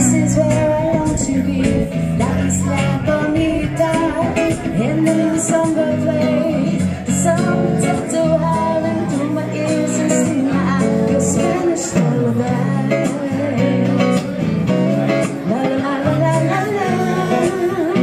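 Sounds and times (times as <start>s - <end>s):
electric guitar: 0.0s - 18.0s
woman singing: 0.0s - 18.0s.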